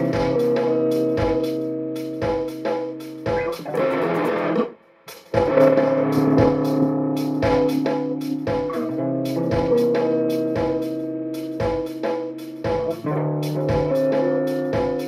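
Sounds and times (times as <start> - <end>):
kick drum beating: 0.0 - 1.6, 2.2 - 3.9, 5.3 - 11.0, 11.6 - 15.0
electric guitar: 0.0 - 2.5, 3.2 - 4.8, 5.4 - 15.0.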